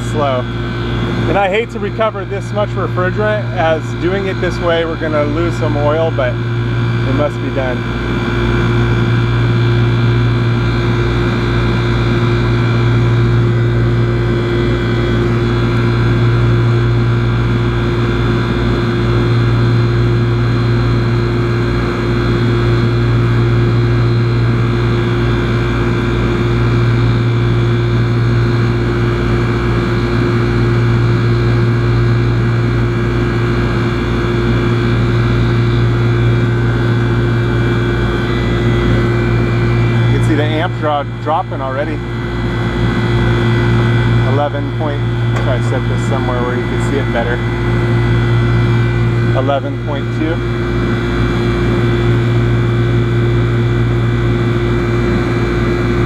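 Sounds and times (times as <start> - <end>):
air conditioner unit humming: 0.0 - 56.0.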